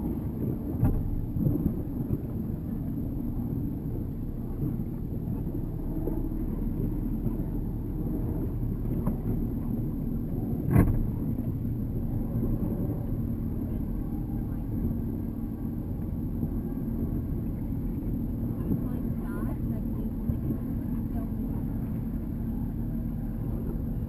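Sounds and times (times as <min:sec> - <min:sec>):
boat motor rumbling: 0:00.0 - 0:24.0.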